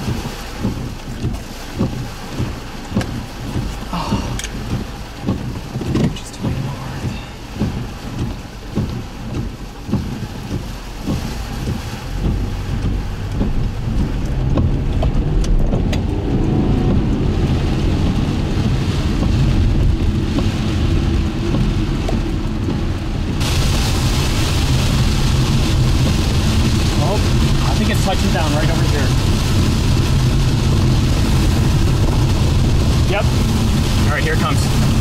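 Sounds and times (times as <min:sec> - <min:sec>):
rain and wind: 0:00.0 - 0:35.0
road and engine rumble: 0:00.0 - 0:35.0.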